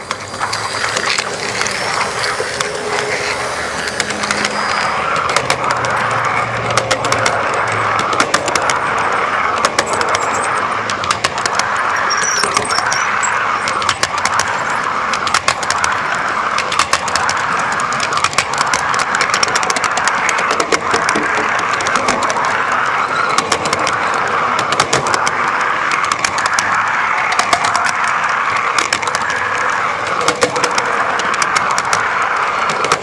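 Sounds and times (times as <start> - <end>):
model train wheels rushing on track: 0.0 - 33.0
quick irregular clicks: 0.0 - 33.0.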